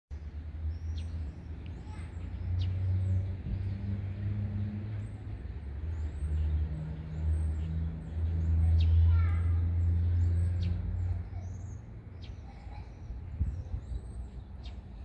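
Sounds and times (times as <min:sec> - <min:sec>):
faint engine hum: 0:00.1 - 0:15.0
songbirds chirping: 0:00.1 - 0:15.0
traffic rumble: 0:00.1 - 0:15.0.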